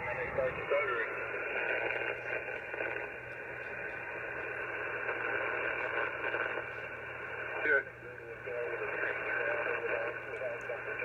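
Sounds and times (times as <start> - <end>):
radio hiss and buzz: 0.0 - 11.0.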